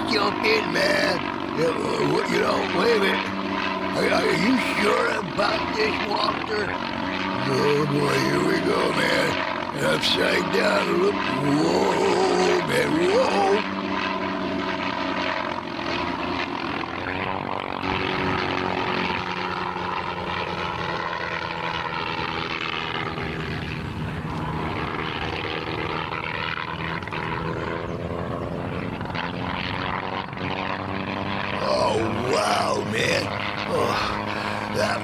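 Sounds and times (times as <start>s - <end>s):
propeller airplane engine droning: 0.0s - 35.0s.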